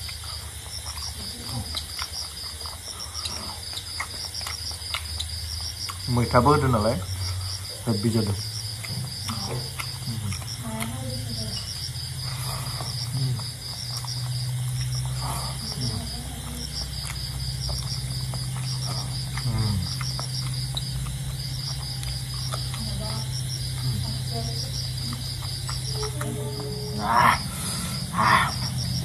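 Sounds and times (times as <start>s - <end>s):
crickets chirping: 0.0s - 29.0s
person chewing: 0.0s - 29.0s
steady low hum: 0.0s - 29.0s.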